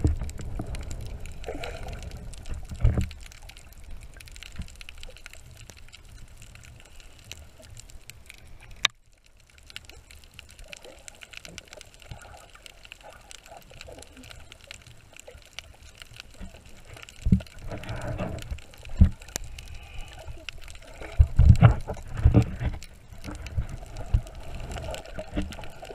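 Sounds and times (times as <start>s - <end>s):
faint underwater crackles and clicks: 0.0s - 25.9s
underwater water wash: 0.0s - 25.9s.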